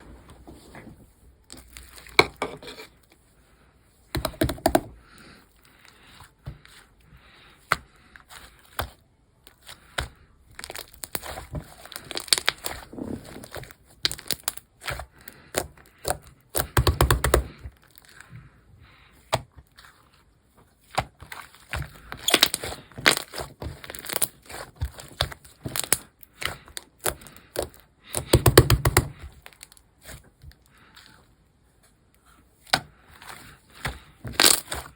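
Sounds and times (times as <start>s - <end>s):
wet slime squelches: 0.0s - 16.8s, 17.4s - 28.4s, 29.0s - 34.9s.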